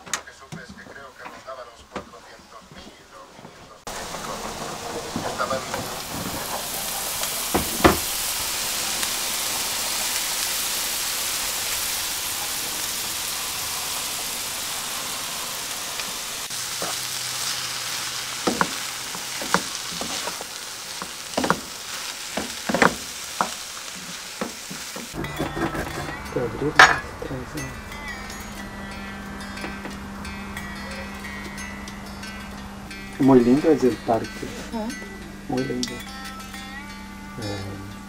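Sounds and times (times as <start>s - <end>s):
vegetables sizzling in a frying pan: 3.9s - 36.6s.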